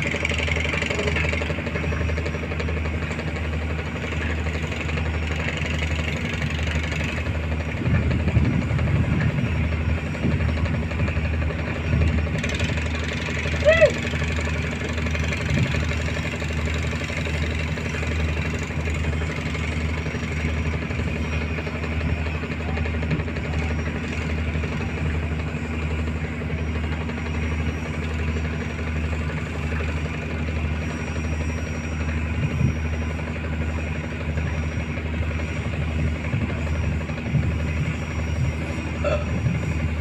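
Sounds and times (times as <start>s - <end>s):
boat diesel engine throbbing: 0.0s - 40.0s.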